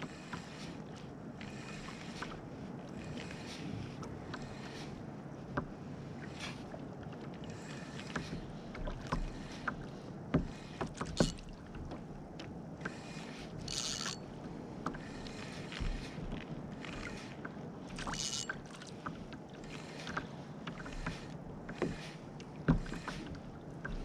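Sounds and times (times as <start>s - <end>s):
water lapping against kayak hull: 0.0s - 24.0s.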